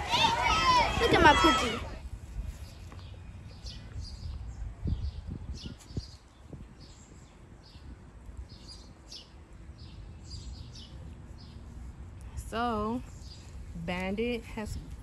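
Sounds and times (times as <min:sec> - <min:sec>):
small birds chirping: 0:02.4 - 0:15.0.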